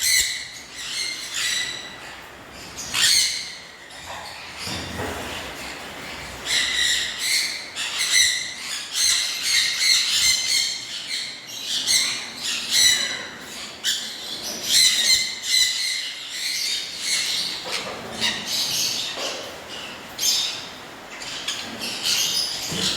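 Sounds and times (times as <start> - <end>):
small birds chirping and squawking: 0.0 - 22.9.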